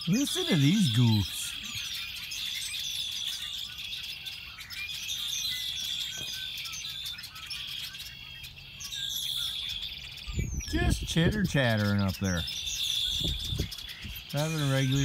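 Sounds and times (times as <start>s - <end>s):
flock of blackbirds chattering: 0.0s - 15.0s.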